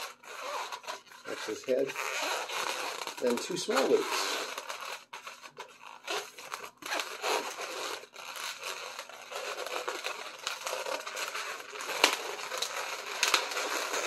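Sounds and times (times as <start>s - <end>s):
balloon squeaking and rubbing: 0.0s - 14.0s.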